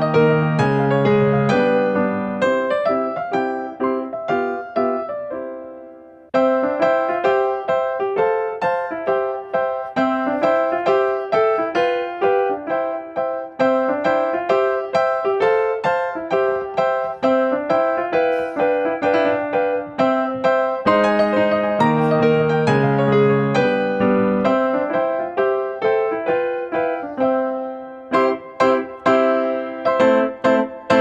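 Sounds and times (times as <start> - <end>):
light electric piano tune: 0.0 - 31.0.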